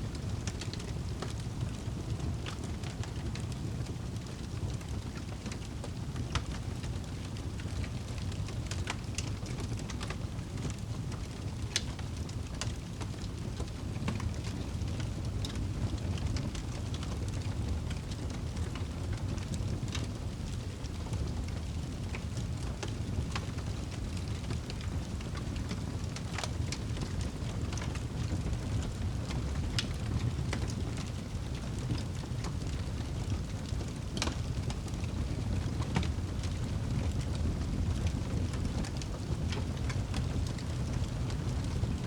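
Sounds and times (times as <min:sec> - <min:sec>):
fire rumbling in fireplace: 0:00.0 - 0:42.0
wood crackling and popping: 0:00.1 - 0:42.0.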